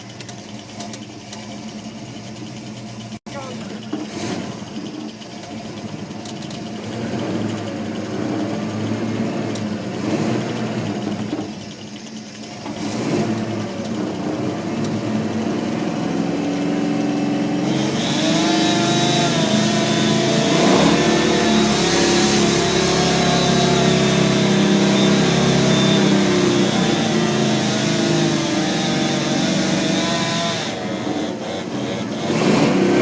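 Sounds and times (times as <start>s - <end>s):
vehicle engine revving: 0.0s - 33.0s.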